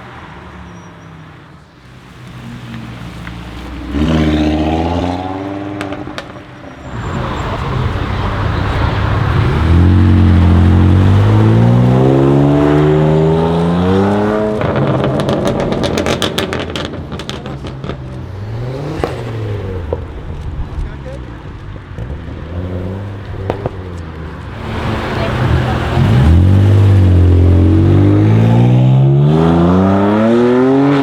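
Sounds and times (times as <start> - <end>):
exhaust crackles and pops: 2.1 - 28.0
car engine accelerating hard: 2.3 - 31.0.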